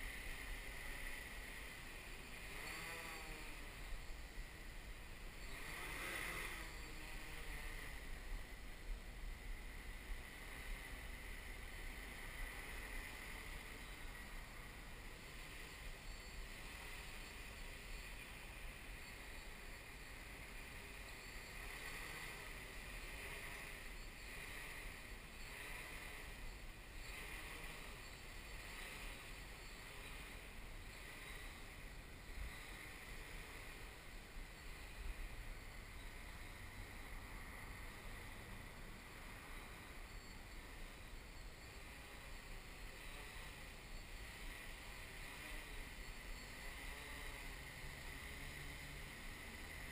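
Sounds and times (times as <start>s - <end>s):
drone motors buzzing: 0.0s - 49.9s.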